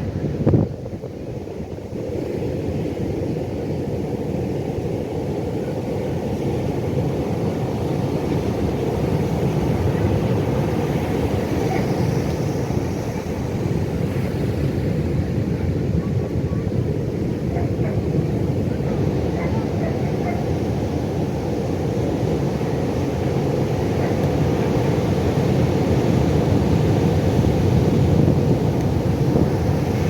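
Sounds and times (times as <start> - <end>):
ocean waves rumbling: 0.0 - 30.0.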